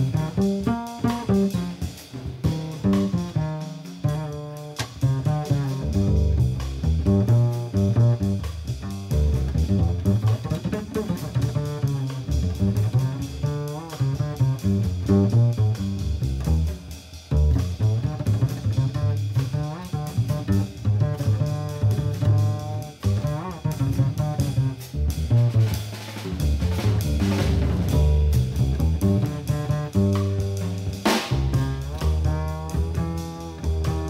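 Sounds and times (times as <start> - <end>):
double bass: 0.0 - 34.0
jazz music: 0.0 - 34.0.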